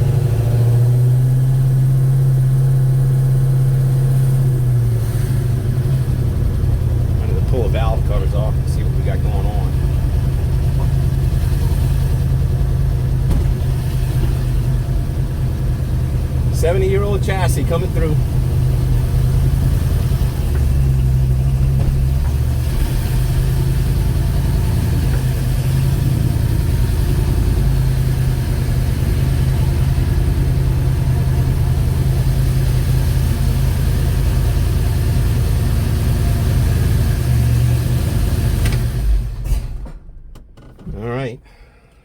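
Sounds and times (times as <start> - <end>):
car engine with valve train clatter: 0.0 - 42.0.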